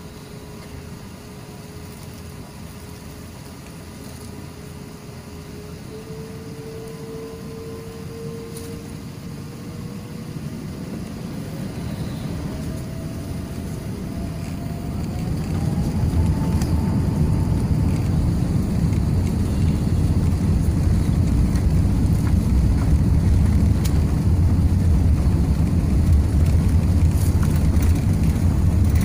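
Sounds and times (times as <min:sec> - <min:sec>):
jet engines spooling up: 0:04.0 - 0:29.0.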